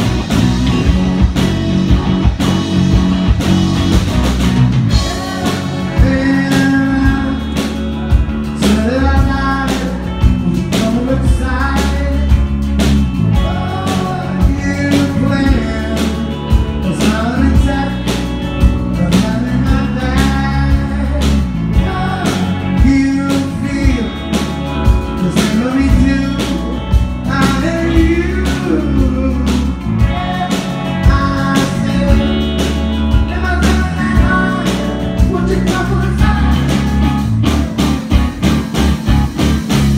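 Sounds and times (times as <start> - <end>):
live rock band playing: 0.0 - 39.9
man singing lead vocal: 4.9 - 37.8.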